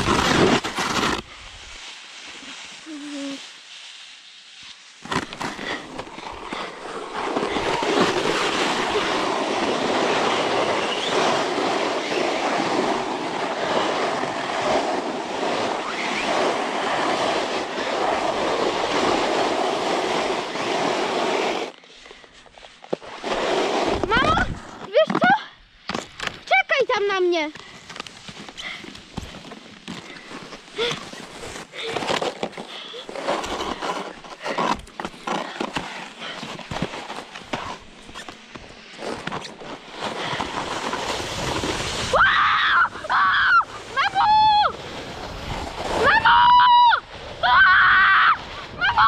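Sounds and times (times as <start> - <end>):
snowboard scraping on snow: 0.0 - 25.0, 27.6 - 49.0.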